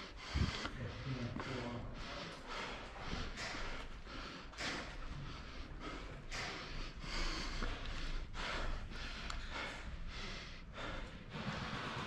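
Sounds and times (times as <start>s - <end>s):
low room rumble: 0.0s - 12.0s
person breathing hard: 0.0s - 12.0s.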